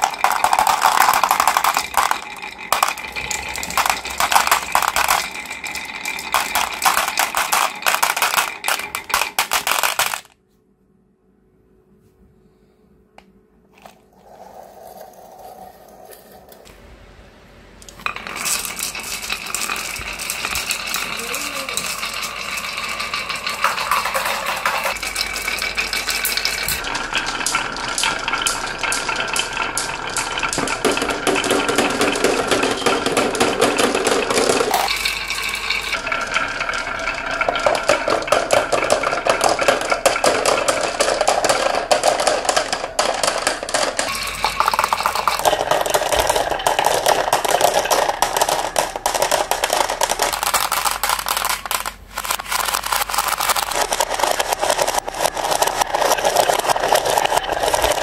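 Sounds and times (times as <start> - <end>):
marbles dropping into plastic truck: 0.0 - 10.3, 17.8 - 58.0
marbles rolling on wooden tracks: 0.0 - 10.3, 13.7 - 16.7, 17.8 - 58.0.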